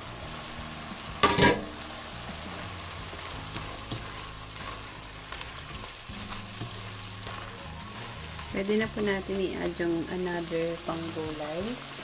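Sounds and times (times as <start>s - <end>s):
food sizzling and simmering: 0.0s - 12.0s.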